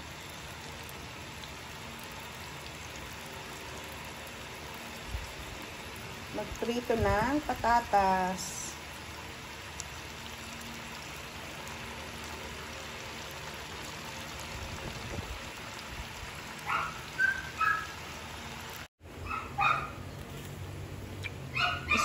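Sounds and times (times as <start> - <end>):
potatoes sizzling in oil: 0.0 - 18.9.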